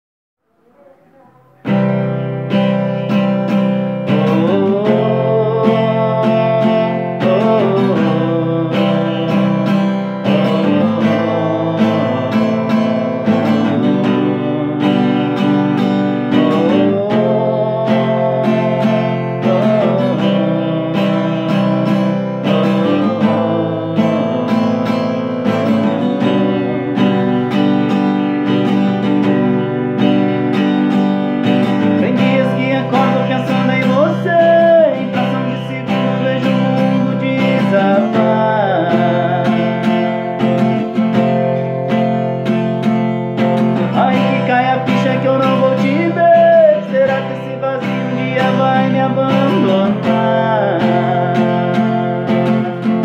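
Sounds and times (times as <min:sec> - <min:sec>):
acoustic guitar strumming chords: 0:00.5 - 0:53.0.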